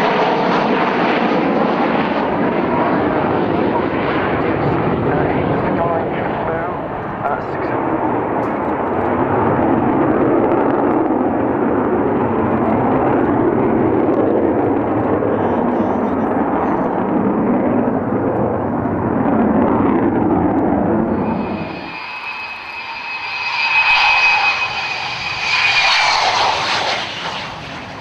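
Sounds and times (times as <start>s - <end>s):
jet aircraft roar: 0.0s - 28.0s.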